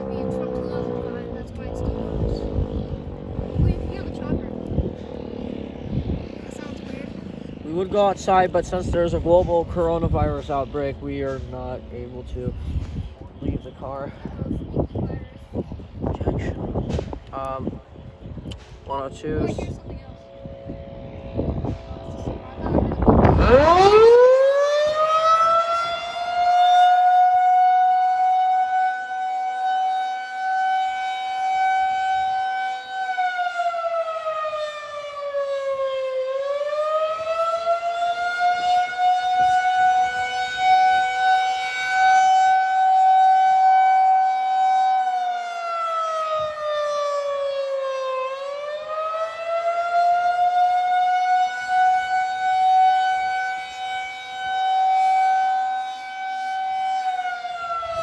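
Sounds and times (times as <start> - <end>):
tornado siren: 0.0 - 58.0.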